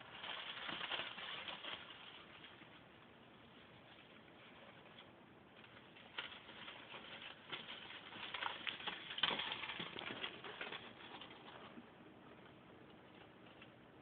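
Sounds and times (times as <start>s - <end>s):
mice scuffling and scratching: 0.0s - 14.0s.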